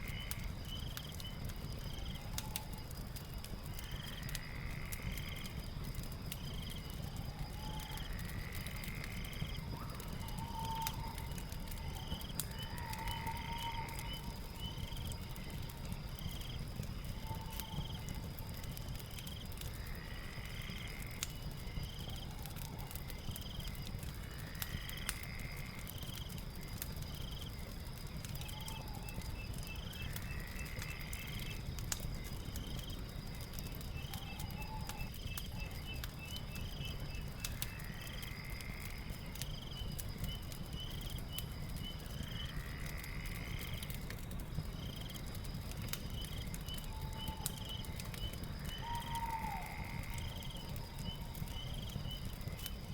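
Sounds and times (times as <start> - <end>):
fire crackling: 0.0 - 52.9
high insect trill: 0.0 - 52.9.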